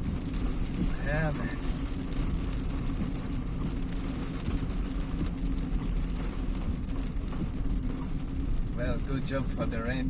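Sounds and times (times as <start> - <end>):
car engine and road noise: 0.0 - 10.0
rain hiss: 0.0 - 10.0.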